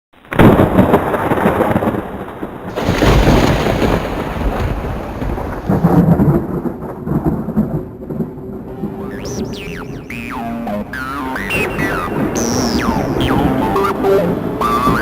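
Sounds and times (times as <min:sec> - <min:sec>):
rain: 0:00.2 - 0:15.0
thunder rumbling: 0:00.2 - 0:15.0.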